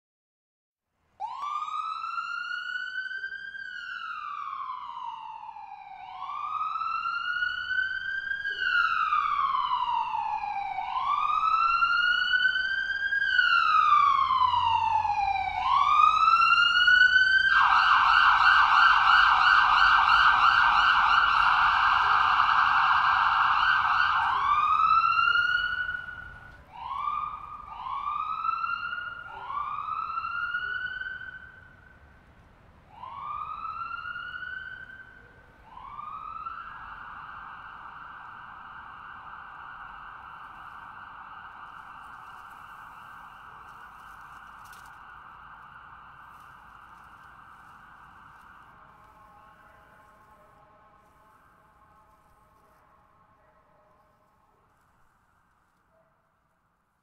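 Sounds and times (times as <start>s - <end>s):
ambulance siren wailing: 1.2s - 54.9s.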